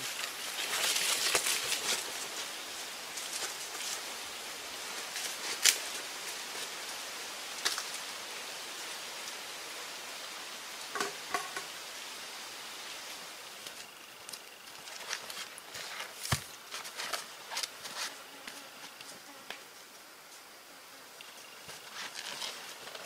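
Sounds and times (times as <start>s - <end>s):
forest ambience hiss: 0.0s - 23.0s.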